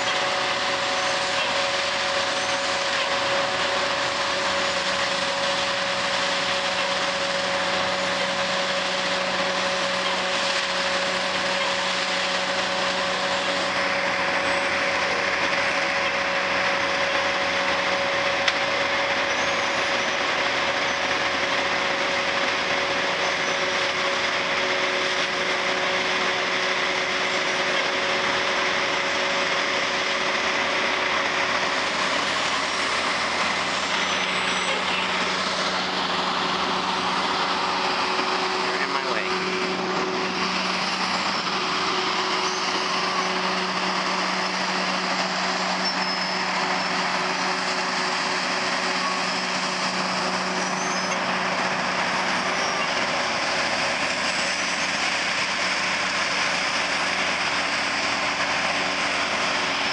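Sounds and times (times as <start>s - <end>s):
leaf vacuum running: 0.0s - 59.9s.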